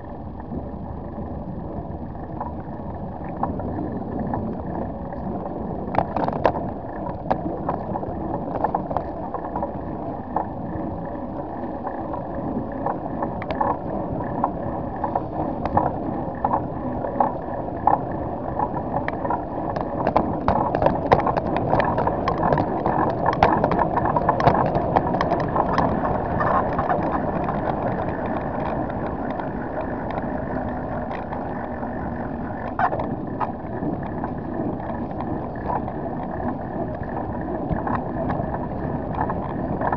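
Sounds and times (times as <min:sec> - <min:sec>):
bicycle rolling on pavement: 0:00.0 - 0:39.9
bicycle rattling clicks: 0:02.3 - 0:11.2, 0:11.8 - 0:39.9.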